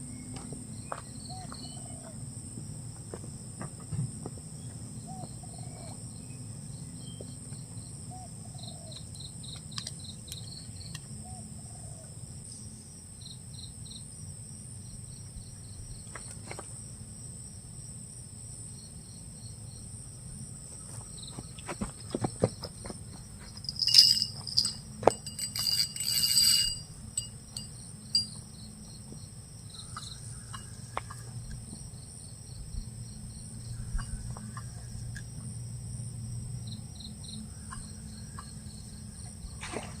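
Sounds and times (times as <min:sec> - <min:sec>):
high insect drones: 0:00.0 - 0:40.0
insects chorus: 0:00.0 - 0:40.0
rapid insect chirps: 0:04.5 - 0:40.0.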